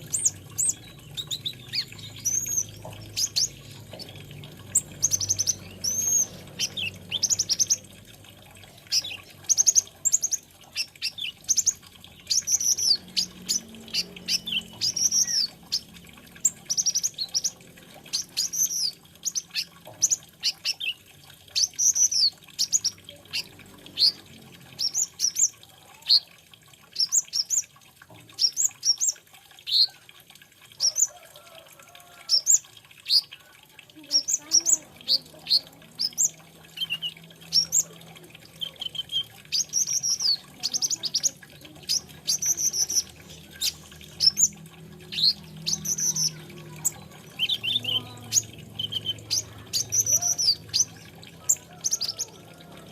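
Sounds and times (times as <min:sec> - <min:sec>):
sunbird chirping and trilling: 0:00.0 - 0:08.0, 0:08.6 - 0:26.3, 0:34.0 - 0:52.6.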